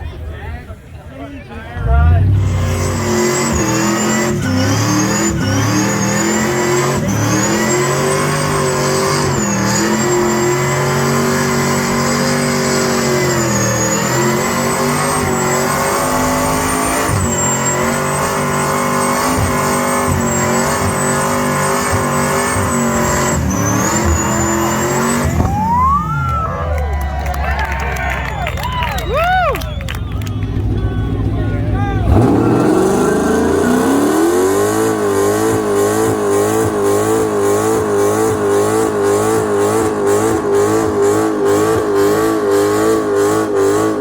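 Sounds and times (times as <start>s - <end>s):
car engine revving high: 1.8s - 44.0s.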